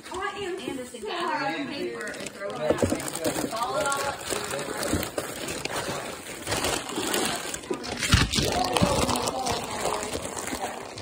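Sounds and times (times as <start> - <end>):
gift wrap rustling and crinkling: 0.0 - 11.0
indistinct voices: 1.6 - 11.0.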